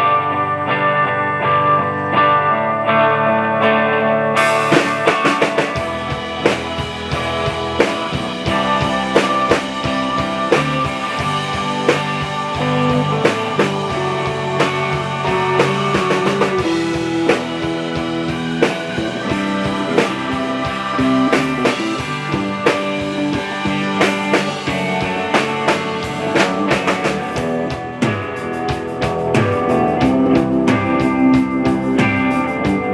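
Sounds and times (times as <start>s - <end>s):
guitar: 0.0s - 32.9s
drum kit beat: 4.4s - 32.9s.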